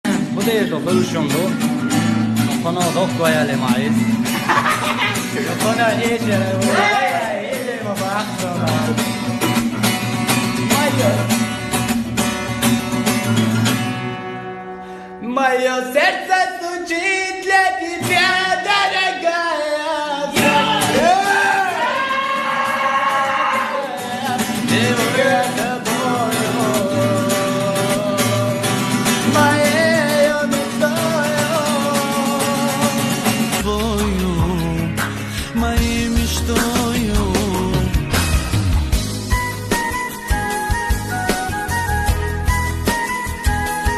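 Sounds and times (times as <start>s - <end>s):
pop song with beat and guitar: 0.0s - 43.9s.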